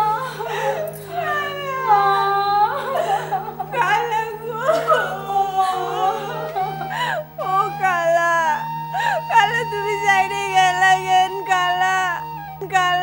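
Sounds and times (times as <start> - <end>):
people crying and wailing: 0.0 - 13.0
sad background music: 0.0 - 13.0.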